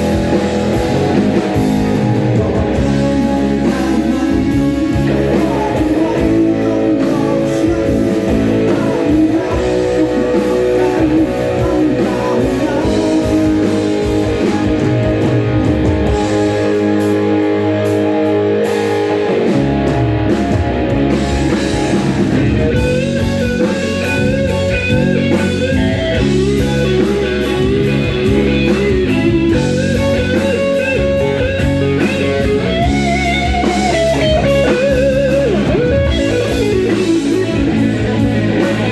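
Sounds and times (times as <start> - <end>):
lead guitar melody with bent notes: 0.0 - 38.9
rock band playing live: 0.0 - 38.9.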